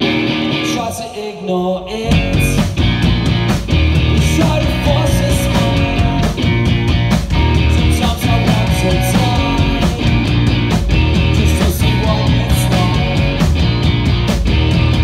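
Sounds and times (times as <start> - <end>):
rock band playing loudly: 0.0 - 1.0, 1.8 - 15.0
steady drum hits: 2.1 - 15.0.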